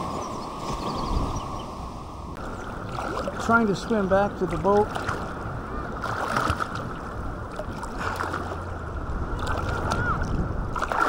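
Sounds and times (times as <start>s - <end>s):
water sloshing and lapping: 0.0s - 11.0s.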